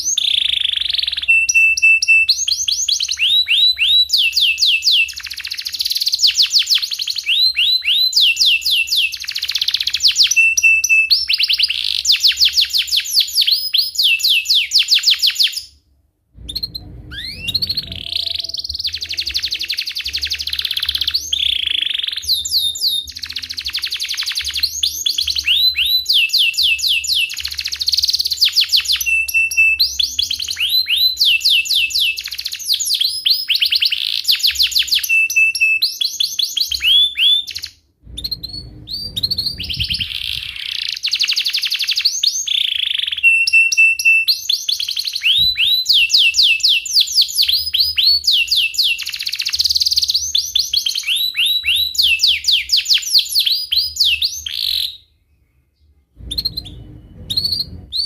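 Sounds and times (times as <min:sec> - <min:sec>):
canary singing chirps and trills: 0:00.0 - 0:15.8, 0:16.4 - 0:58.0.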